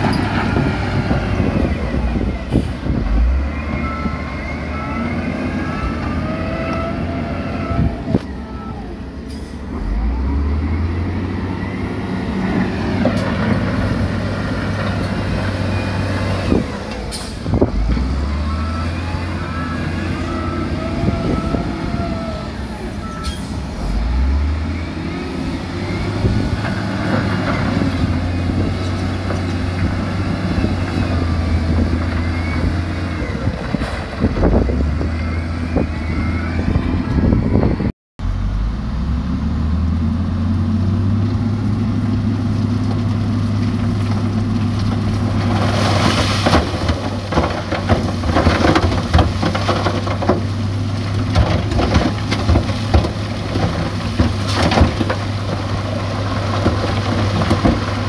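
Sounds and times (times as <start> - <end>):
heavy diesel engines revving: 0.0 - 58.0.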